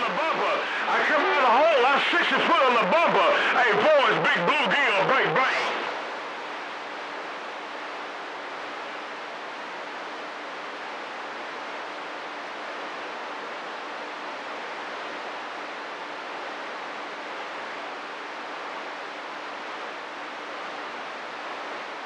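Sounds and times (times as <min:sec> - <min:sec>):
faint steady hum: 0:00.0 - 0:22.0
radio static hiss: 0:00.0 - 0:22.0.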